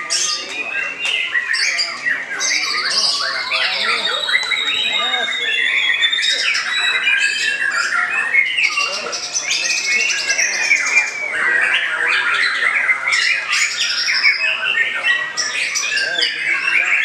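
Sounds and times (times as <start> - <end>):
other birds singing: 0.0 - 17.0
songbird singing trills and whistles: 0.0 - 17.0.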